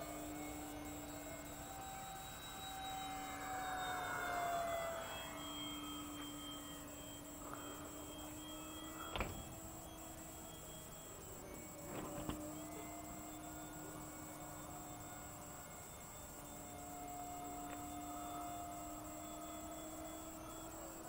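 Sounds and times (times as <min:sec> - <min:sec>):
model jet fans whining: 0:00.0 - 0:21.0.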